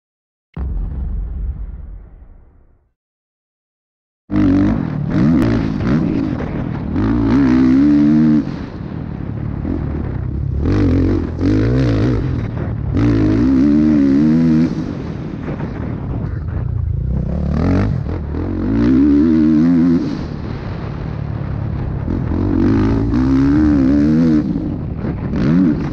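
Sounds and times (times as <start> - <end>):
dirt bike engine revving: 4.3 - 25.9.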